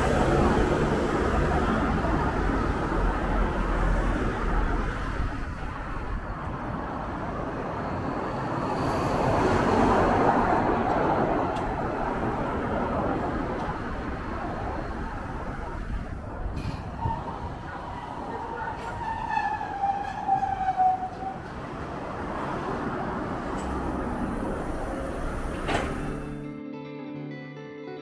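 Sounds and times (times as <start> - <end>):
road traffic: 0.0 - 26.5
streetcar running: 0.0 - 26.5.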